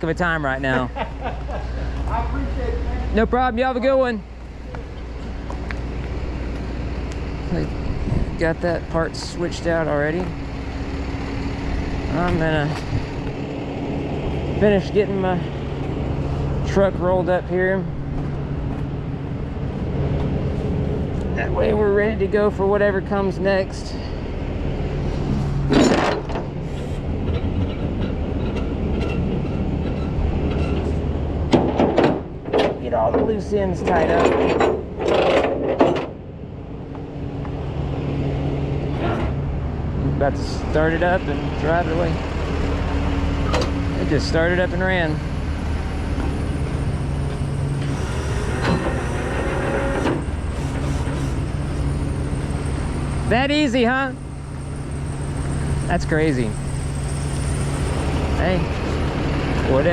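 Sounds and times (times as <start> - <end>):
tow truck engine rumble: 0.0 - 59.9.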